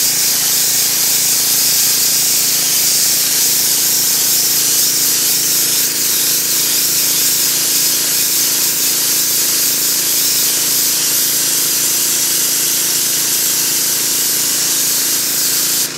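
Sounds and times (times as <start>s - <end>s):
pressure washer motor humming: 0.0s - 15.9s
pressure washer spray hissing: 0.0s - 15.9s.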